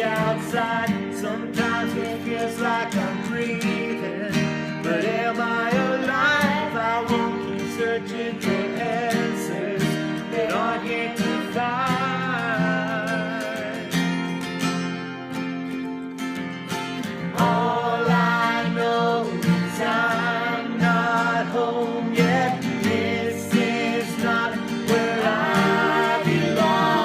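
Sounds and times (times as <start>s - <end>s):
person singing: 0.0s - 14.2s, 17.2s - 27.0s
strummed acoustic guitar: 0.0s - 27.0s.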